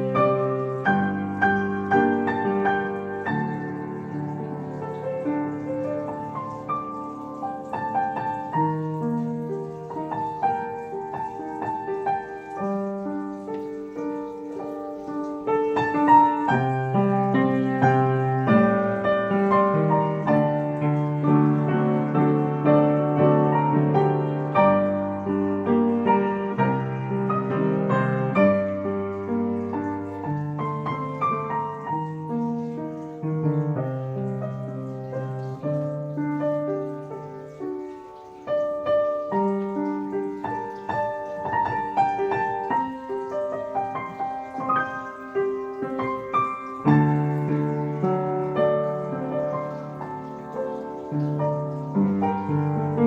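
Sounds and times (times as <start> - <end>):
piano playing melody and chords: 0.0 - 53.0.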